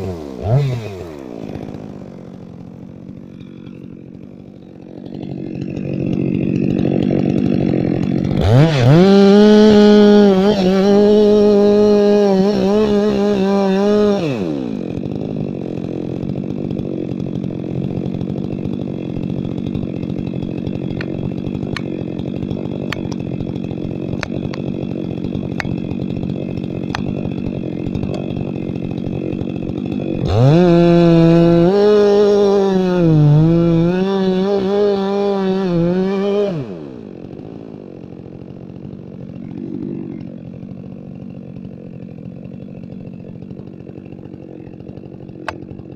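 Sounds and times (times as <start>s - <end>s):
chainsaw revving and idling: 0.0s - 45.9s.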